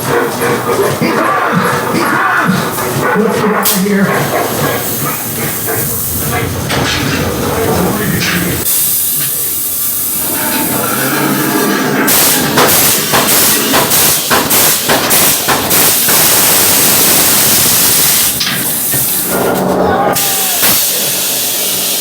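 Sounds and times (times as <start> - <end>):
loud hissing blasts: 2.5 - 22.0.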